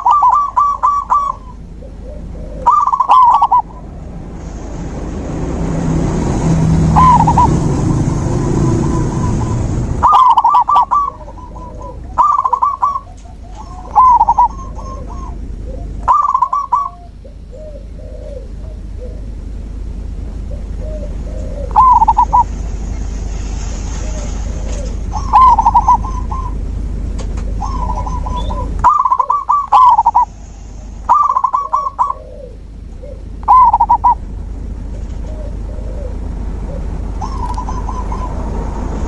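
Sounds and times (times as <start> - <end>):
dove giving staccato coos: 0.0 - 4.0, 6.4 - 19.4, 20.2 - 23.0, 23.8 - 30.3, 31.1 - 39.0
faint low doves cooing: 0.0 - 4.6, 6.7 - 23.2, 23.8 - 26.7, 27.4 - 39.0
low background rumble: 0.0 - 39.0.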